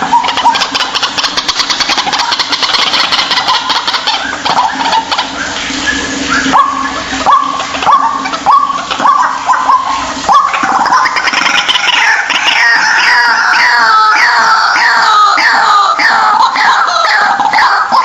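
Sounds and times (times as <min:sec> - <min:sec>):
chorus of bird calls: 0:00.0 - 0:18.0
waterhen harsh calls: 0:00.0 - 0:18.0.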